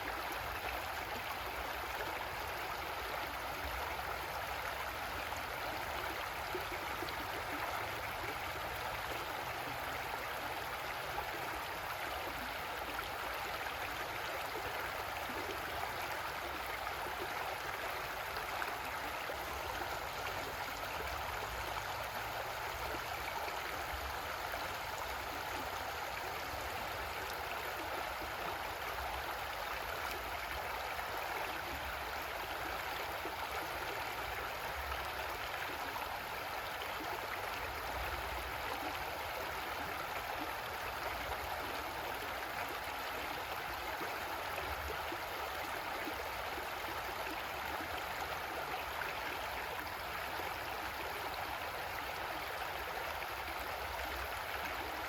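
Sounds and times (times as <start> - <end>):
creek water flowing over rocks: 0.0 - 55.0.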